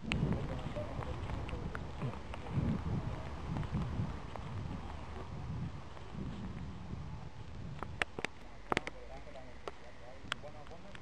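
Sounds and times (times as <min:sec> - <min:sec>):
wind on microphone: 0:00.0 - 0:08.9
footsteps on muddy ground: 0:00.0 - 0:09.0.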